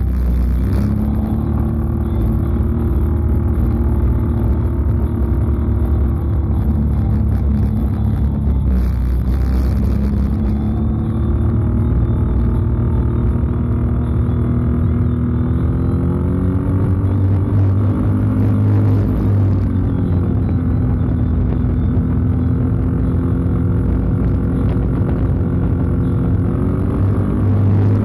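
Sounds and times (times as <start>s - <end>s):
atv engine cruising: 0.0s - 28.0s.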